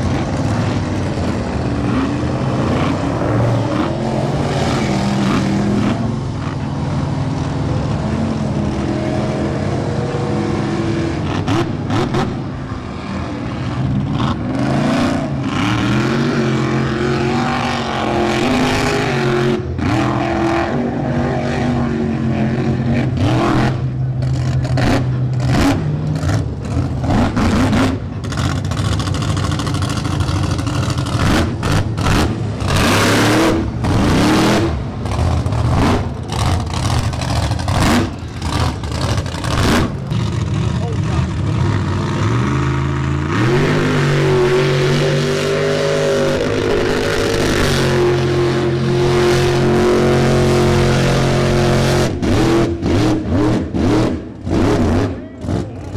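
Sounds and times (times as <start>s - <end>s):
truck engine revving loudly: 0.0s - 55.9s.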